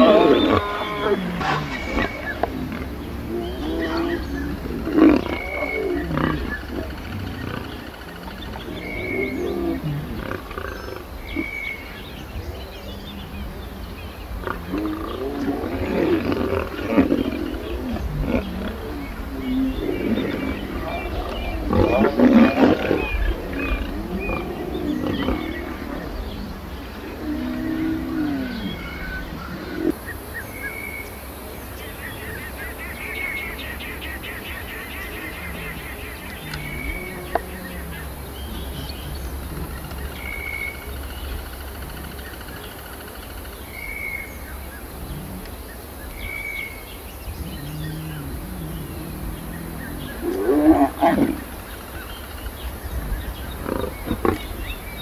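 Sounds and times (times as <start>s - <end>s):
lions growling and snarling: 0.0s - 30.0s, 33.0s - 55.0s.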